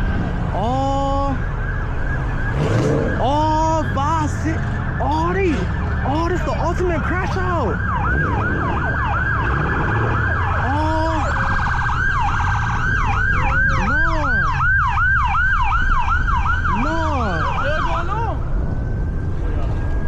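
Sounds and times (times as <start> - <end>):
police siren yelping: 0.0 - 19.3
police siren wailing: 0.0 - 20.0.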